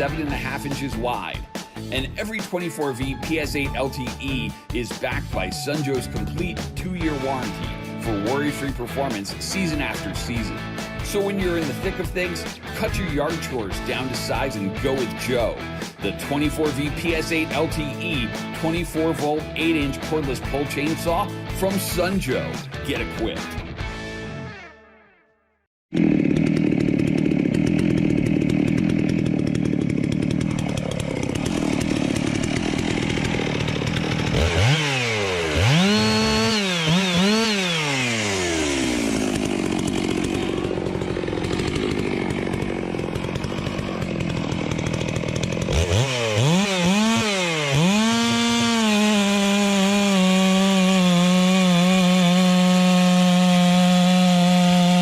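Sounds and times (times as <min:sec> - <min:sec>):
chainsaw cutting wood: 0:00.0 - 0:23.6, 0:25.9 - 0:55.0.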